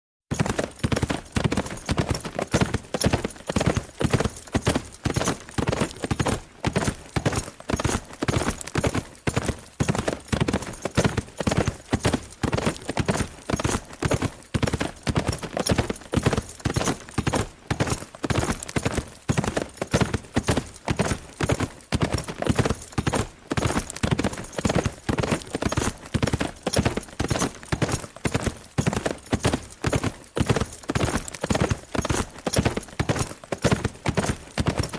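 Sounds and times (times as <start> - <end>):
horse hoofbeats galloping: 0.3 - 34.9.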